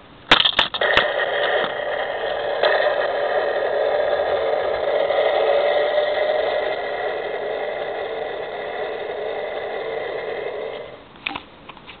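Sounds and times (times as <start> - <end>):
toy rocket engine sound effect: 0.3 - 11.1.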